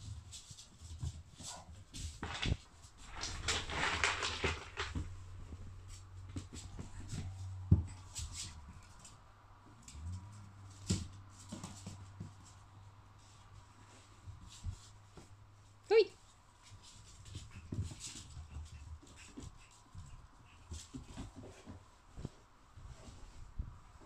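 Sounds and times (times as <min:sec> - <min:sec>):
rustling: 0:00.0 - 0:24.0.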